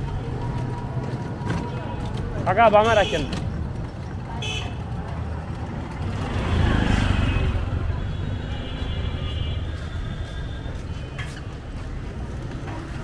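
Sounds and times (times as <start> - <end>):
auto-rickshaw engine running: 0.0 - 13.0
street traffic rumble: 0.0 - 13.0.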